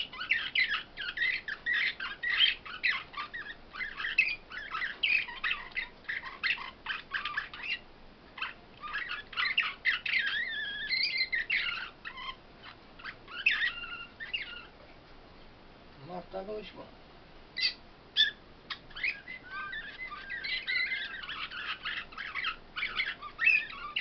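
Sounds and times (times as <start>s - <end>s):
finches twittering and trilling: 0.0s - 14.8s, 17.5s - 24.0s.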